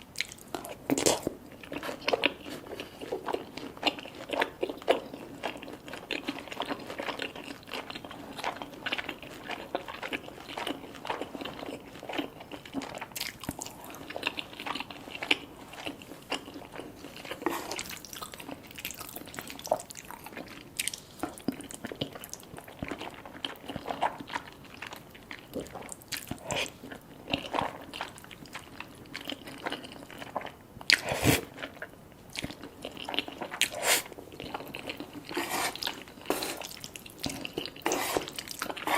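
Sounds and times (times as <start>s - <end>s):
person chewing crunchy food: 0.1s - 38.9s.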